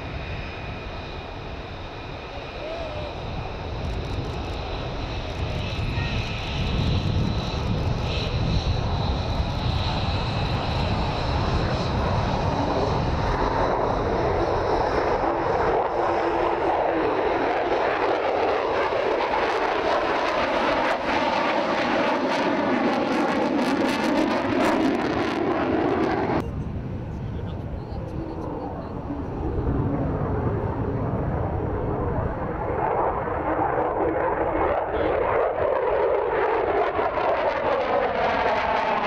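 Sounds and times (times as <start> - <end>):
fighter jet roar: 0.0 - 39.0.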